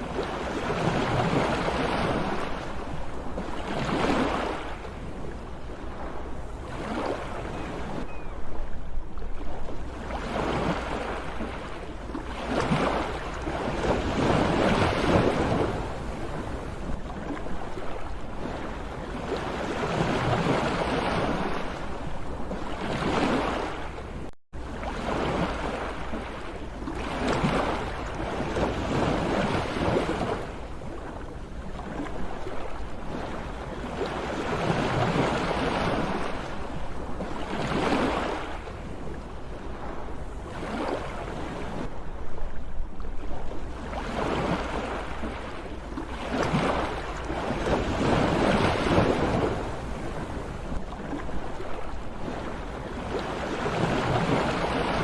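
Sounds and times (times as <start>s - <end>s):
sea waves surging and receding: 0.0s - 55.0s.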